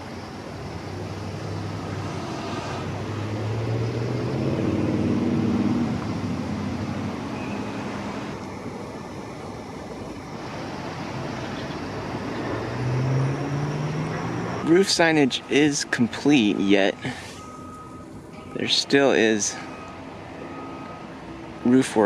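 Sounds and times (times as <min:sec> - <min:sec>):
vehicle engine passing: 0:00.0 - 0:21.6
traffic hum: 0:00.0 - 0:22.0.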